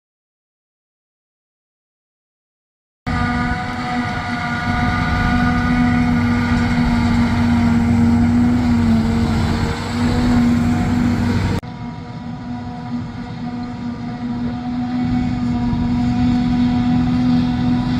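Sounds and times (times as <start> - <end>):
heavy farm machinery droning: 3.1 - 17.9
steady machine whine: 3.1 - 17.9.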